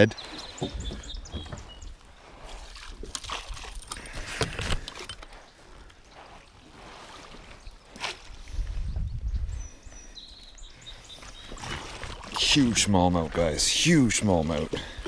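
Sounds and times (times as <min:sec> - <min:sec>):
water splashing: 0:00.3 - 0:08.7, 0:10.9 - 0:15.0.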